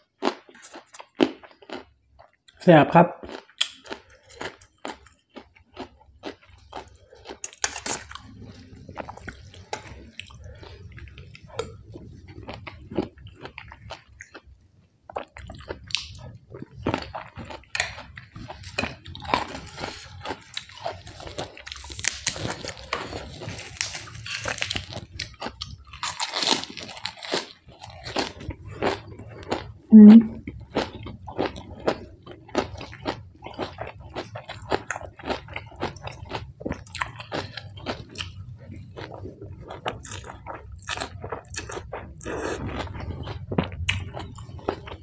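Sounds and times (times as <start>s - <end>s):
person chewing and crunching: 0.0s - 2.6s, 3.2s - 45.0s.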